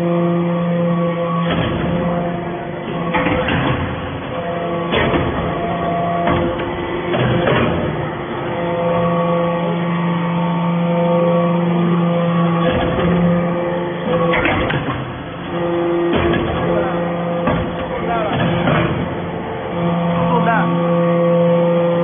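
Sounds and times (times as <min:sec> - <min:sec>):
baler machine hum: 0:00.0 - 0:22.0.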